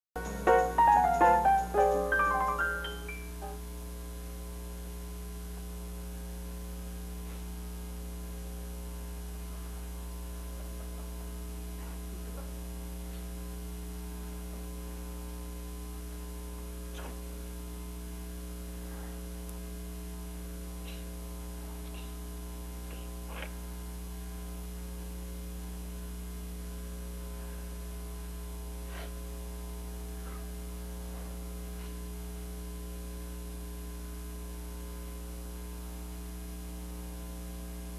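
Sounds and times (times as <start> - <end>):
electrical mains hum: 0.2 - 37.9.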